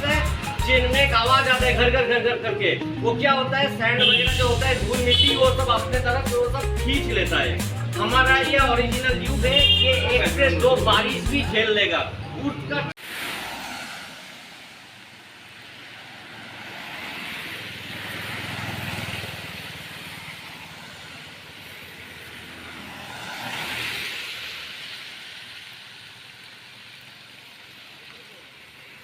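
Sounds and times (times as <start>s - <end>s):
motor vehicles passing: 0.0s - 27.8s.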